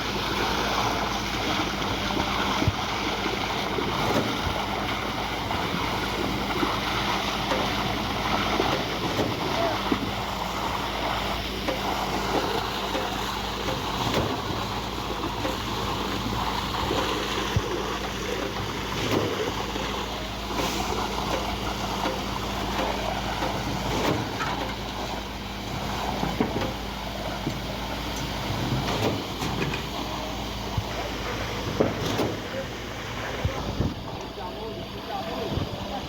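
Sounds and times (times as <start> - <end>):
concrete rushing through pump: 0.0 - 36.0
diesel engine hum: 0.0 - 36.0.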